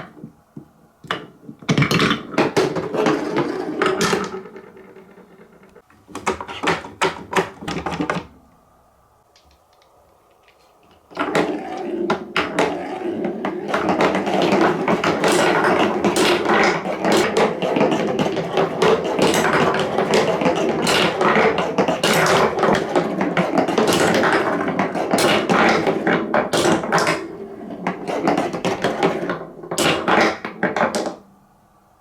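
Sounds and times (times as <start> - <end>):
marbles rolling down plastic track: 1.7 - 8.2, 11.1 - 31.2.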